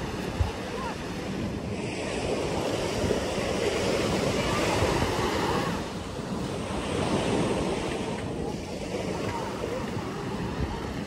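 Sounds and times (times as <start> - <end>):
waves washing onto beach: 0.0 - 11.0
wind on microphone: 0.0 - 11.0.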